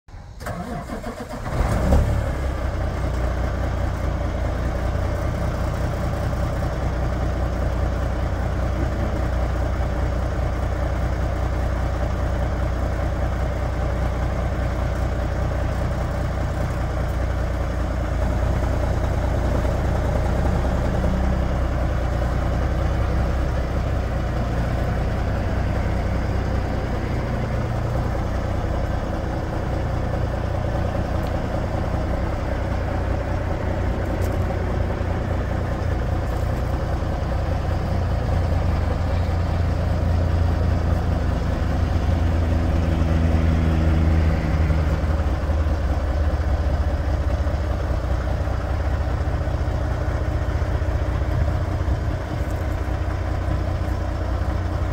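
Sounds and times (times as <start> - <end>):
diesel truck engine starting and idling: 0.1 - 54.9.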